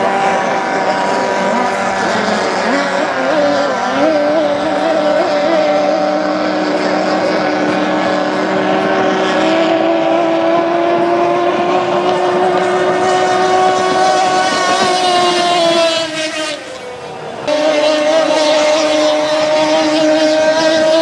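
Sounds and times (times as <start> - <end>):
motorboat engine at high revs: 0.0 - 21.0.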